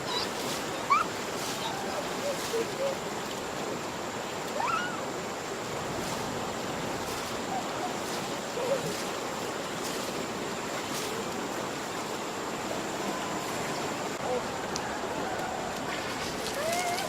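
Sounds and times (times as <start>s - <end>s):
steady rushing noise: 0.0s - 16.6s.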